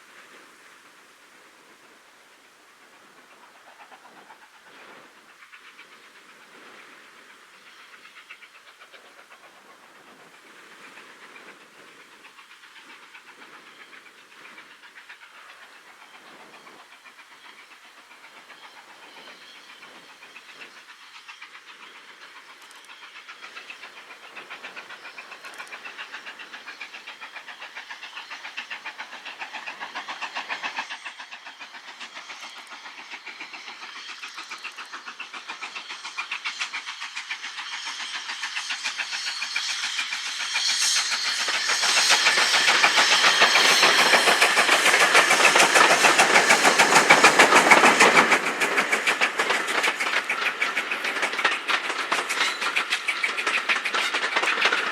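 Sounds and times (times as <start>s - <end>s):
steam locomotive exhaust beats: 0.0s - 54.9s.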